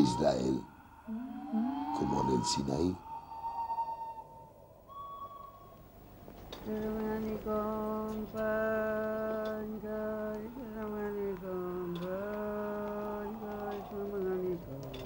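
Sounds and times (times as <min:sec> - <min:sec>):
person singing wordless low notes: 0:00.0 - 0:04.1, 0:06.6 - 0:15.0.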